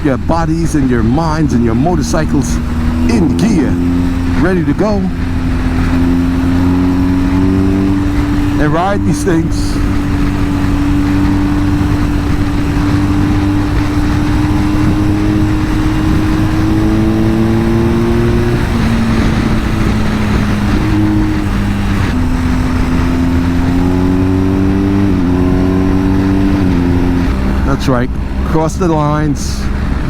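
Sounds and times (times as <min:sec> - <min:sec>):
motorcycle engine under way: 0:00.0 - 0:30.0
wind rumble on microphone: 0:00.0 - 0:30.0.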